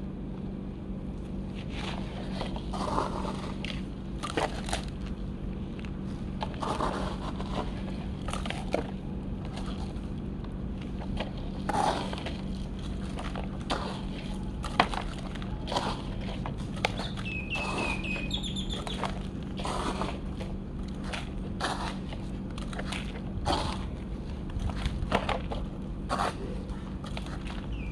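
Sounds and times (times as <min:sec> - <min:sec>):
steady low hum: 0:00.0 - 0:27.9
excavator bucket scraping dirt: 0:01.6 - 0:05.1, 0:06.4 - 0:10.0, 0:10.8 - 0:27.9.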